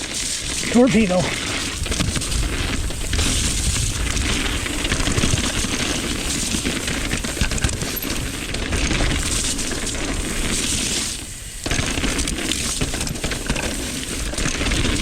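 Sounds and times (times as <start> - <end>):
wind rumble on microphone: 0.0 - 13.3
bike rattling over rough ground: 0.0 - 15.0.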